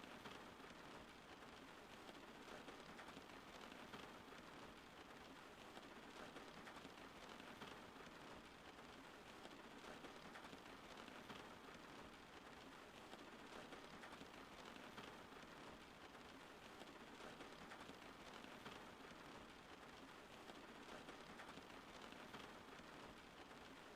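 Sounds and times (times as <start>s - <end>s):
steady rain with drop impacts: 0.0s - 23.9s.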